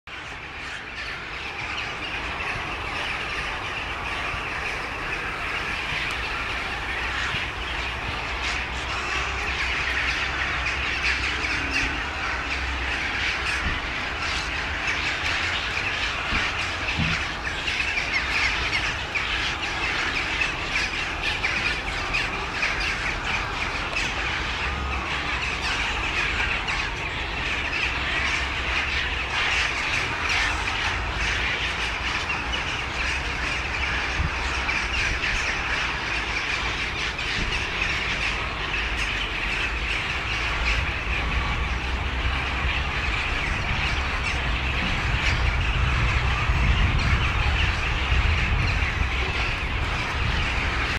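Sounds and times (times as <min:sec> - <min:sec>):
dense din of birds calling: 0:00.0 - 0:50.9.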